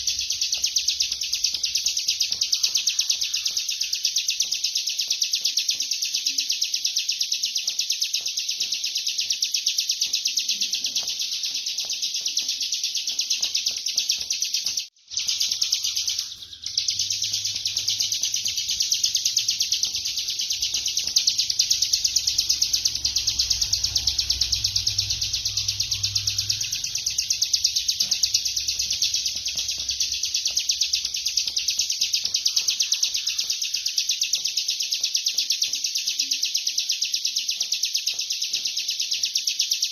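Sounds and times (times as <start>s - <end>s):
bird singing fast high trill: 0.0s - 39.9s.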